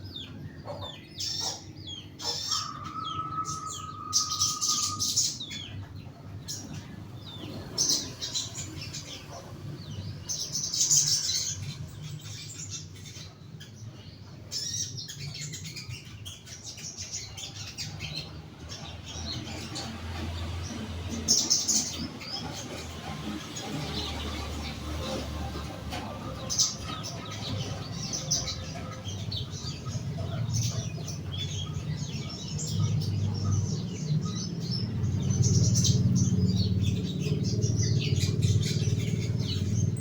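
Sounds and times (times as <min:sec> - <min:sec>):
bird chirping: 0:00.0 - 0:40.0.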